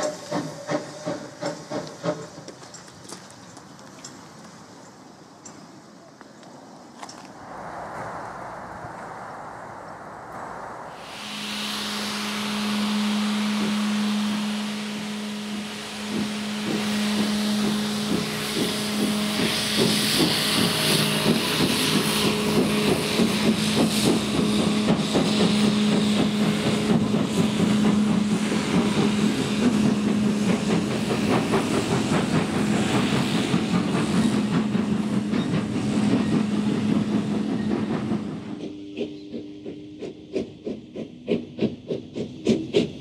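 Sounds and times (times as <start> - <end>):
steam hissing: 0.0 - 2.8, 7.3 - 43.0
steam locomotive exhaust beats: 0.0 - 5.6, 7.0 - 43.0.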